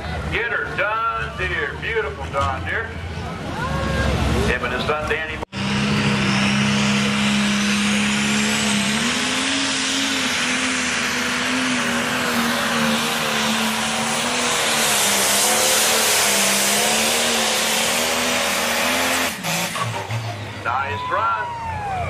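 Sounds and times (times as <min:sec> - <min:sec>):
loud rushing exhaust: 0:03.0 - 0:22.0.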